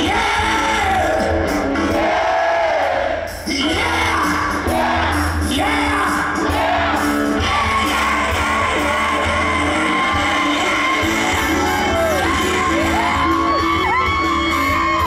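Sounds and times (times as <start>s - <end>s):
live band music with singer: 0.0s - 15.0s.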